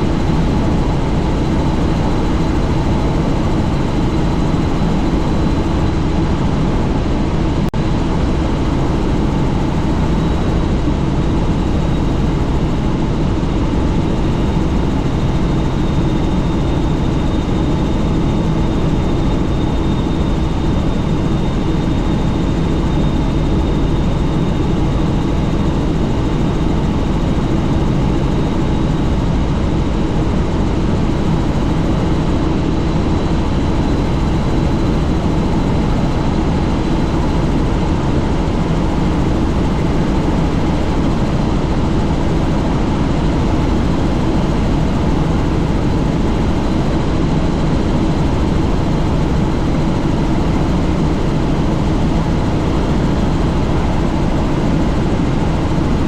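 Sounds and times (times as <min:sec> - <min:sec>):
helicopter rotor and engine noise: 0:00.0 - 0:56.0.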